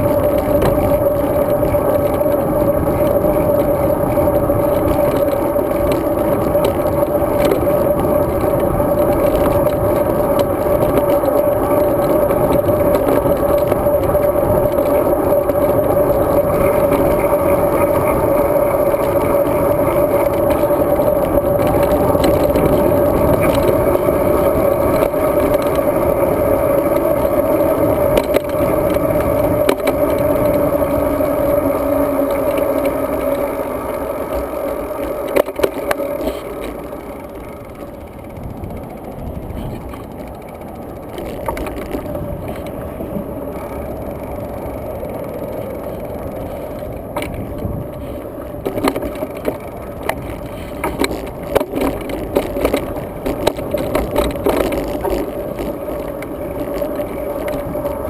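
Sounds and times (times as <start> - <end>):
constant hum: 0.0 - 58.0
tyre noise on road: 0.0 - 58.0.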